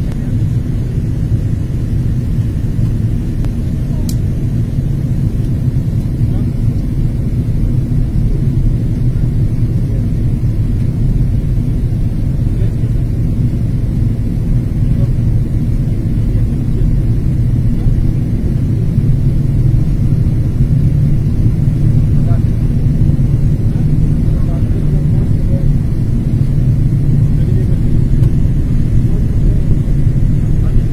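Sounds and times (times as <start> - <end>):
airliner cabin drone: 0.0 - 30.9.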